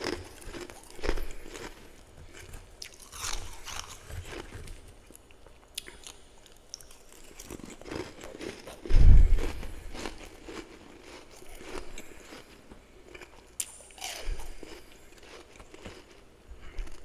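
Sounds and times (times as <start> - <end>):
frost being chewed: 0.0 - 17.0.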